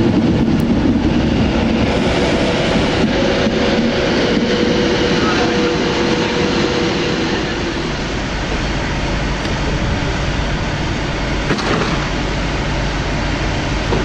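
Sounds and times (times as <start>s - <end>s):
electric train humming past: 0.0s - 14.0s
train wheels rumbling on rail: 0.0s - 14.0s.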